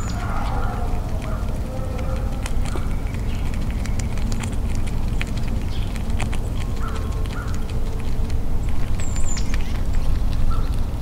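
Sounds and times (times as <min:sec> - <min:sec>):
squirrel crunching a peanut: 0:00.0 - 0:11.0
steady low rumble: 0:00.0 - 0:11.0.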